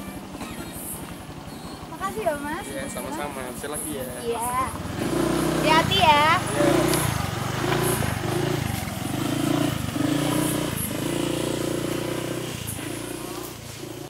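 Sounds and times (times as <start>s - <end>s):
motor scooter engine revving: 0.0s - 14.0s.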